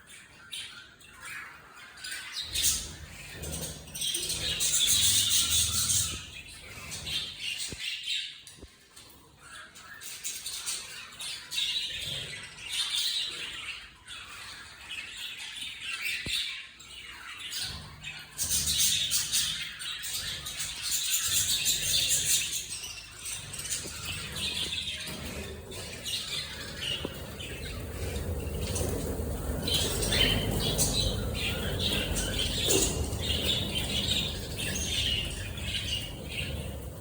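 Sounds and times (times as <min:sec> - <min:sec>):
budgerigars chattering and squawking: 0:00.0 - 0:08.2, 0:09.4 - 0:37.0.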